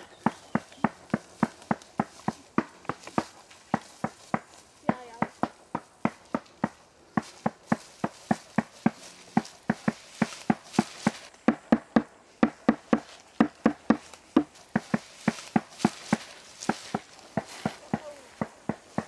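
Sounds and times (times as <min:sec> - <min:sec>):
drum beating steady strokes: 0:00.0 - 0:19.0.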